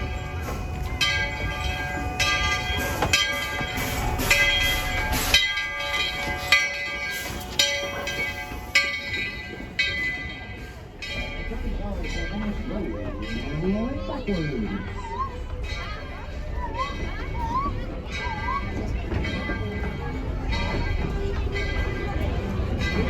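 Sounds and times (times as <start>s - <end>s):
locomotive bell ringing: 0.0s - 23.0s.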